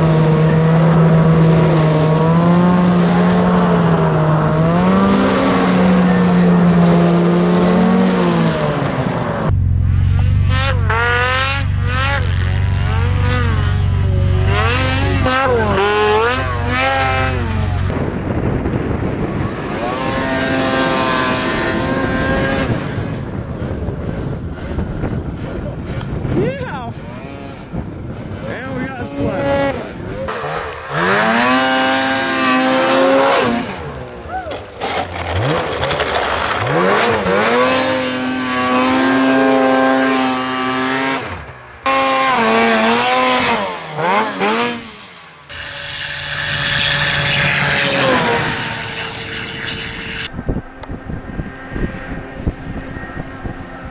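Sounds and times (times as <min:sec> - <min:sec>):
snowmobile engine revving: 0:00.0 - 0:53.9.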